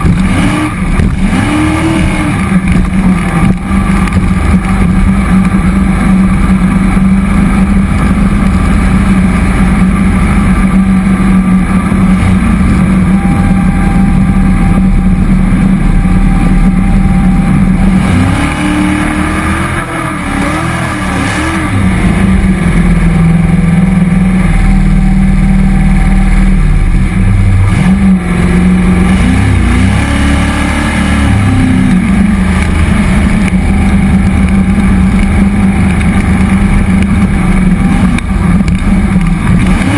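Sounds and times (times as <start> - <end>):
boat engine running hard: 0.0 - 39.9.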